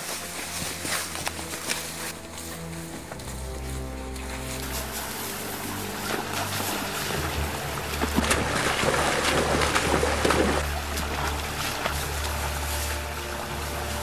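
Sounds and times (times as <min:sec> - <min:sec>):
feet splashing in water: 0:00.0 - 0:14.0
low bass music: 0:00.0 - 0:14.0.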